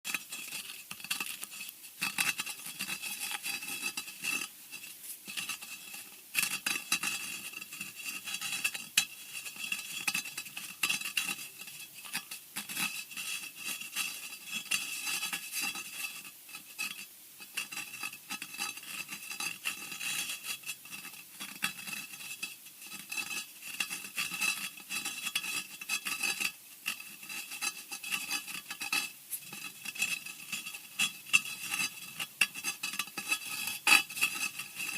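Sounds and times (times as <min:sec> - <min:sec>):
scratching and scraping: 0:00.0 - 0:34.9.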